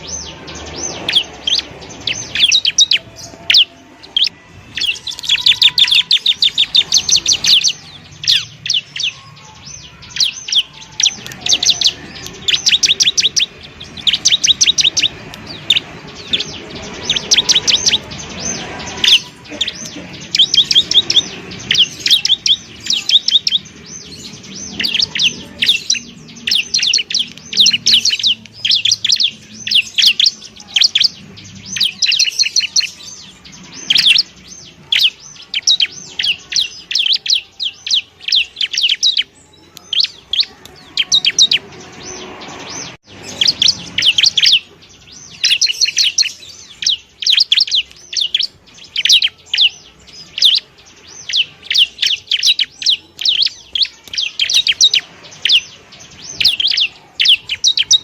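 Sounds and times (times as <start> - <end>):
bird singing rapid high notes: 0.0 - 58.0.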